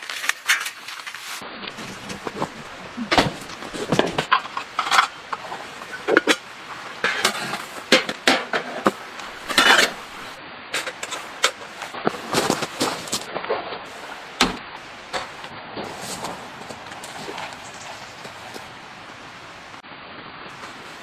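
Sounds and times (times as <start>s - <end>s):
rustling: 0.0s - 19.2s.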